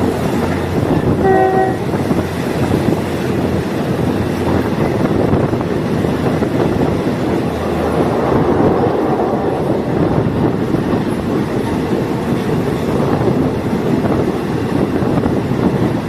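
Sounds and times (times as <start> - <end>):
train wheels and engine rumble: 0.0 - 16.0
wind noise: 0.0 - 16.0.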